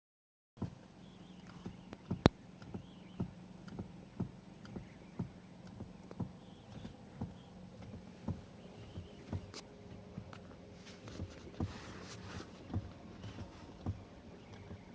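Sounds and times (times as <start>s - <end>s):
dull knocking from car steering: 0.6s - 0.8s, 1.5s - 10.4s, 11.0s - 14.9s
low steady hum: 0.6s - 14.9s.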